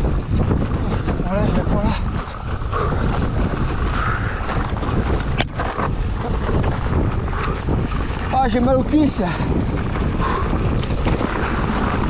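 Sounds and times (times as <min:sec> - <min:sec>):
bike rolling over rough trail: 0:00.0 - 0:12.0
wind buffeting microphone: 0:00.0 - 0:12.0.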